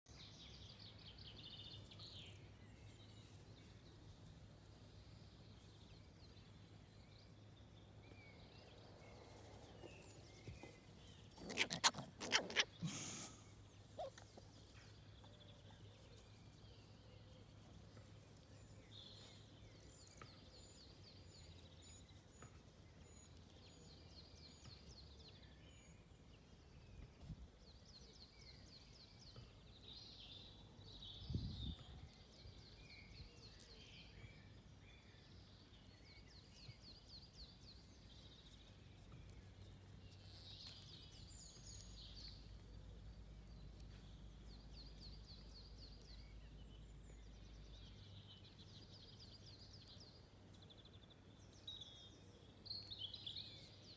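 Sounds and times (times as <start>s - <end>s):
birds singing: 4.9s - 53.9s.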